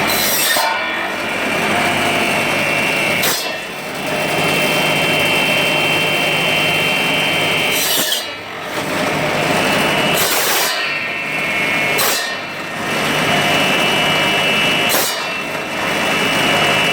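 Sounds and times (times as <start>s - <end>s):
power saw motor whining: 0.0s - 16.9s.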